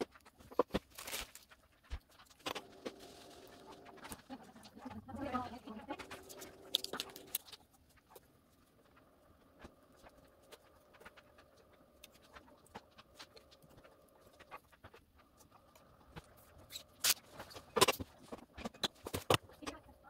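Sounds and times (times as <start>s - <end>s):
faint steady hum: 1.8s - 20.0s.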